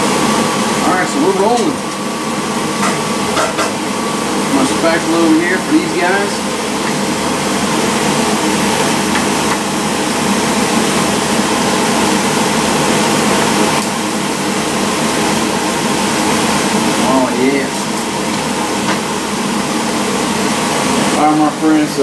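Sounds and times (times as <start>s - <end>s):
fan running: 0.0s - 22.0s.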